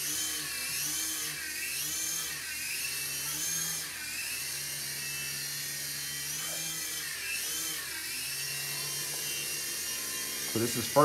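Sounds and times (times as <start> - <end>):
rc helicopter rotor whine: 0.0 - 11.0.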